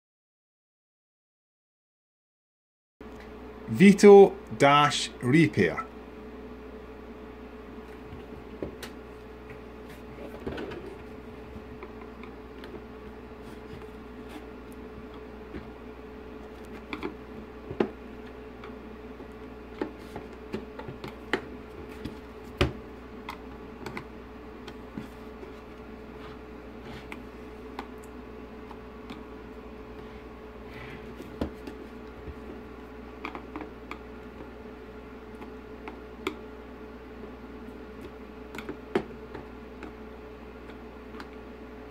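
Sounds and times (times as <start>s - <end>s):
steady hum: 3.0s - 41.9s.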